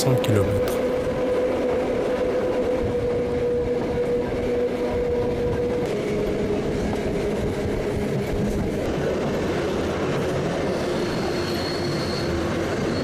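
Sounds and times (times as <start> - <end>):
train whine: 0.0 - 13.0
wheels rumbling on rails: 0.0 - 13.0.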